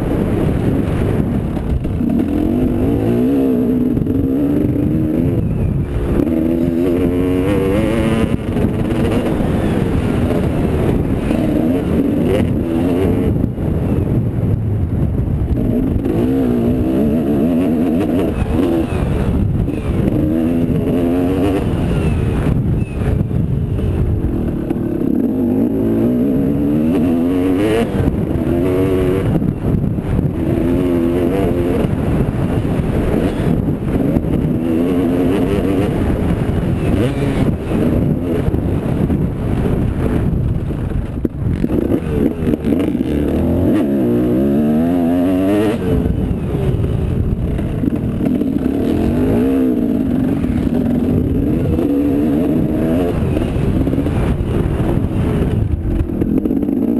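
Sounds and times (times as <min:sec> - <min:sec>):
motocross engine revving: 0:00.0 - 0:14.0, 0:15.4 - 0:56.9.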